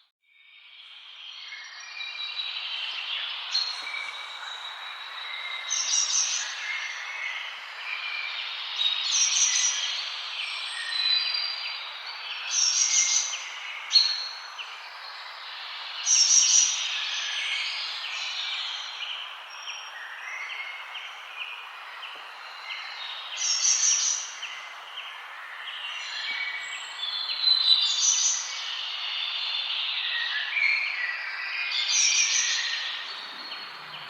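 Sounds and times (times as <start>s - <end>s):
birds singing and chirping: 1.4s - 34.0s.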